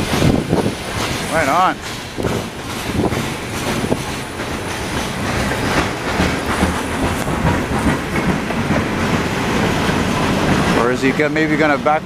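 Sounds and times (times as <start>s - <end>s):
train rumble: 0.0s - 12.0s
train wheels clicking on rails: 0.0s - 12.0s.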